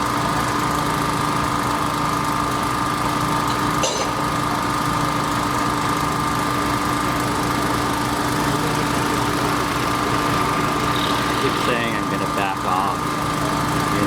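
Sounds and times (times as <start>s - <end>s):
machine engine idling: 0.0s - 14.0s.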